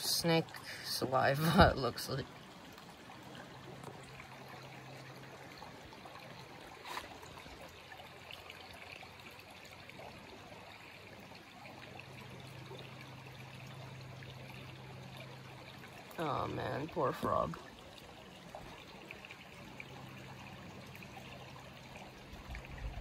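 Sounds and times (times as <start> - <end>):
creek trickling over rocks: 0.0 - 23.0.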